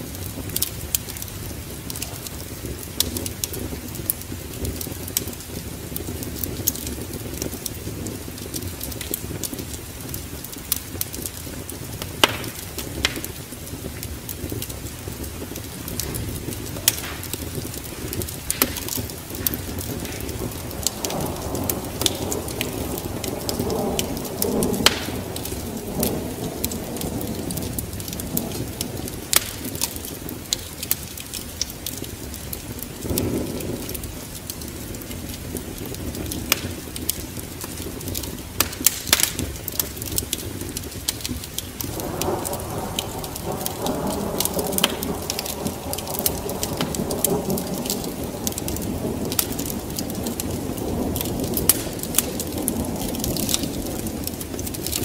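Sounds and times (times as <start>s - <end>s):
rolling thunder: 0.0s - 55.0s
steady rain: 0.0s - 55.0s
wood fire crackling and popping: 0.0s - 55.0s.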